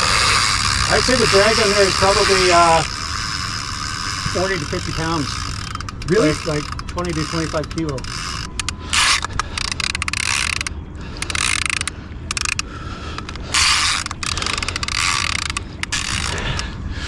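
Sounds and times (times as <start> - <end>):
fishing reel ratcheting clicks: 0.0 - 16.7.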